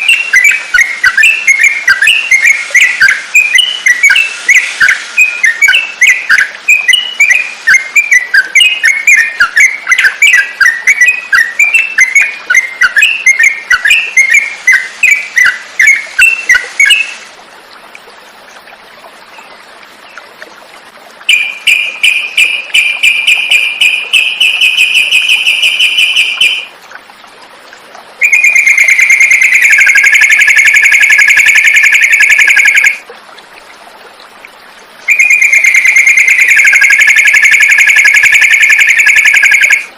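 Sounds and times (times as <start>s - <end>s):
bird chirping: 0.0s - 17.2s, 21.3s - 26.7s, 28.2s - 33.0s, 35.1s - 39.9s
bird trill: 0.0s - 17.2s, 21.3s - 26.7s, 28.2s - 33.0s, 35.1s - 39.9s.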